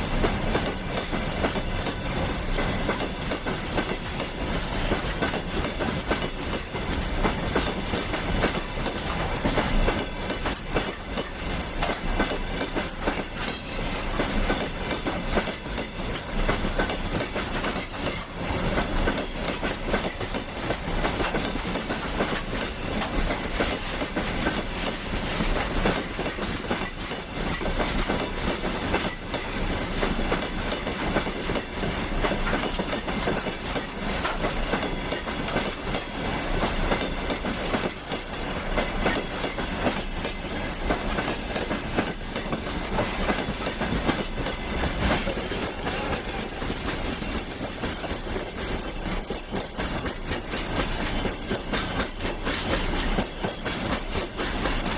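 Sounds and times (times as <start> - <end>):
train wheels clattering on track: 0.0 - 54.9.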